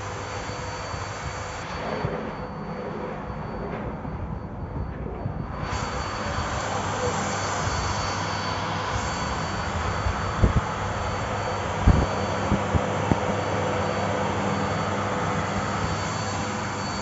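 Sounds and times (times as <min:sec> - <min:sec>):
vacuum cleaner whine: 0:00.0 - 0:17.0.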